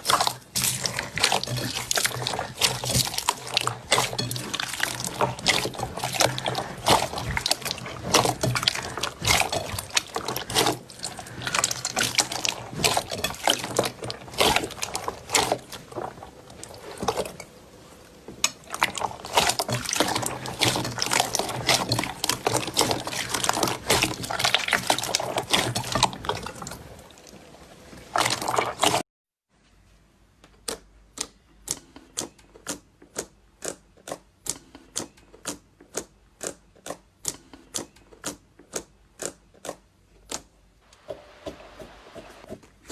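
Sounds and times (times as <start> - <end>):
slime squelching: 0.0 - 29.0, 30.6 - 42.6.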